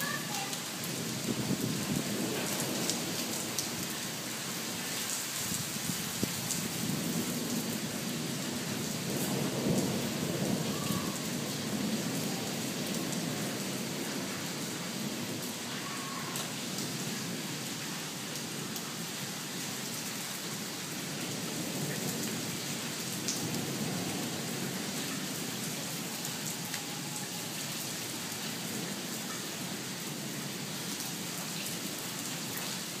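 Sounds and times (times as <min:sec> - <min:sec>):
rain hissing on pavement: 0:00.0 - 0:33.0.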